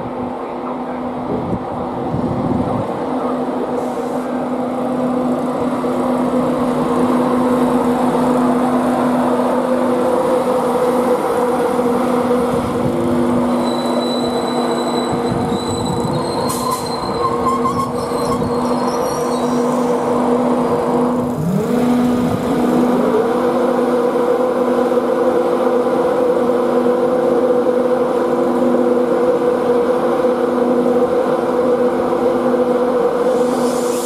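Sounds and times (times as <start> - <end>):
train hum and rail rumble: 0.0 - 34.0.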